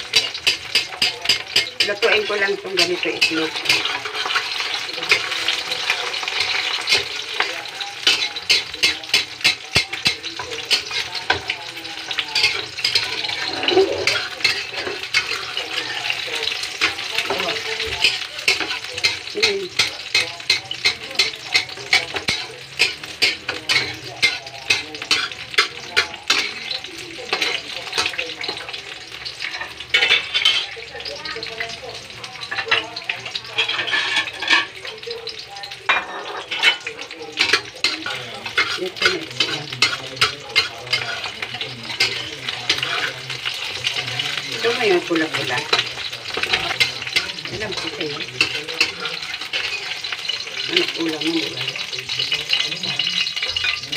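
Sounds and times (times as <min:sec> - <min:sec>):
spatula scraping a wok: 0:00.0 - 0:30.8, 0:32.4 - 0:34.7, 0:36.0 - 0:53.9
eggs sizzling in oil: 0:00.0 - 0:53.9.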